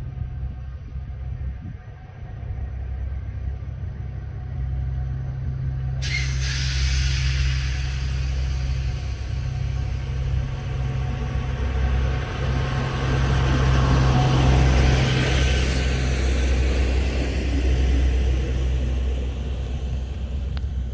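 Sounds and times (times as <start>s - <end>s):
diesel railcar engine: 0.0s - 20.9s
train wheels on rails: 0.0s - 20.9s.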